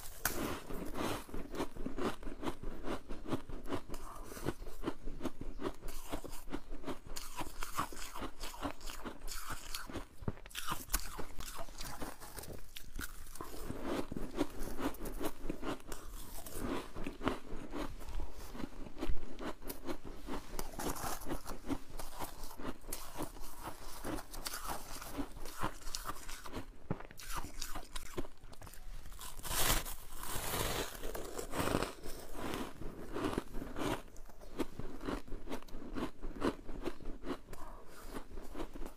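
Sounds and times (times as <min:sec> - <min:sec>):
icy crunching while chewing: 0:00.0 - 0:38.9.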